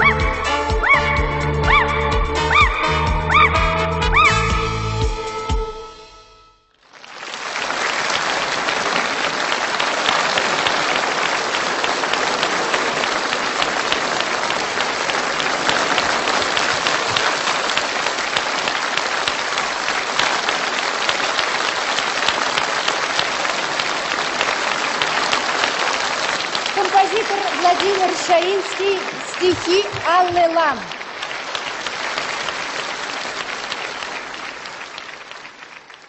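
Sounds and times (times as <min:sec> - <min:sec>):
large audience applauding: 0:06.8 - 0:36.0.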